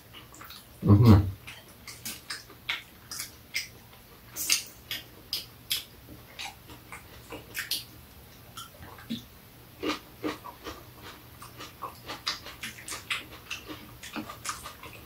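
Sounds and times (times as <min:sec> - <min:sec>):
soft chewing and mouth smacks: 0:00.0 - 0:00.8, 0:01.4 - 0:15.0.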